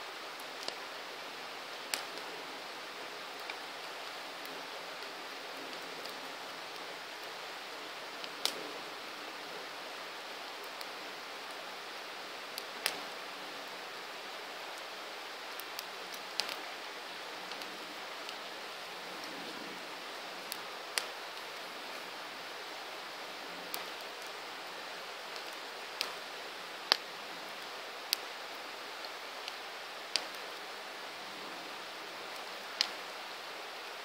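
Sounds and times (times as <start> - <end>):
campfire hissing: 0.0 - 34.0
burning wood crackling pops: 0.3 - 13.3, 14.1 - 34.0.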